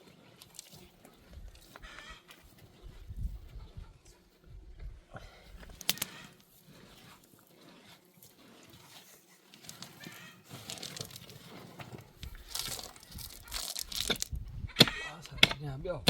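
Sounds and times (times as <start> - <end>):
rustling and crinkling: 0.0 - 15.6.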